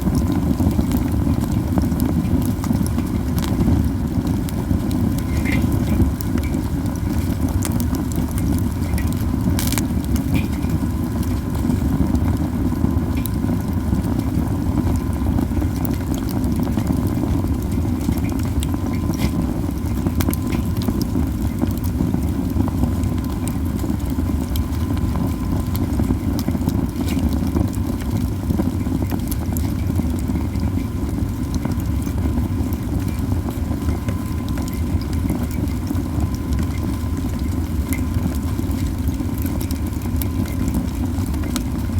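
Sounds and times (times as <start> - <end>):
fire crackling and popping: 0.0 - 41.9
rush of flames: 0.0 - 41.9.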